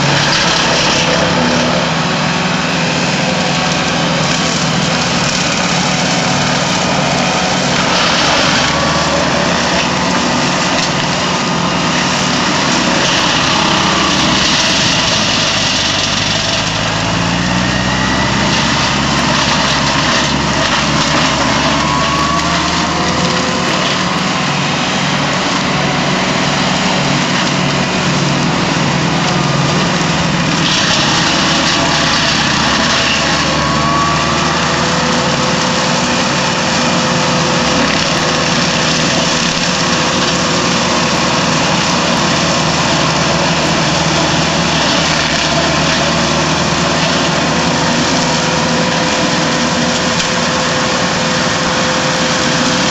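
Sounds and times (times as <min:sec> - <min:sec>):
mulcher rotor shredding brush: 0:00.0 - 0:52.9
tractor engine under load: 0:00.0 - 0:52.9.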